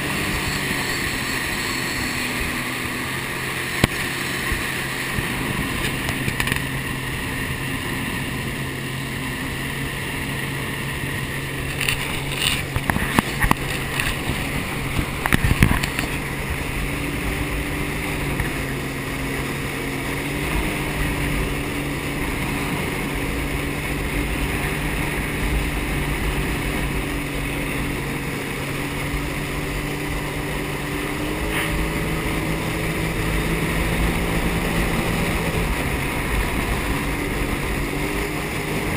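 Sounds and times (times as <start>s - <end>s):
jet ski engine running: 0.0s - 38.9s.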